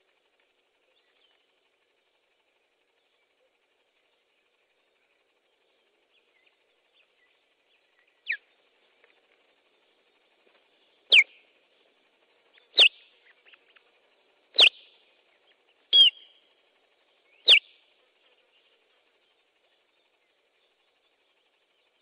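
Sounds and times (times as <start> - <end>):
osprey alarm calls: 2.8 - 22.0.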